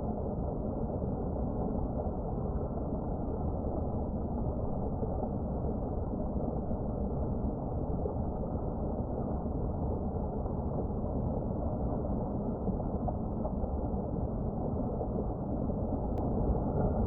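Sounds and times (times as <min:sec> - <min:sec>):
low muffled outdoor rumble: 0:00.0 - 0:17.0.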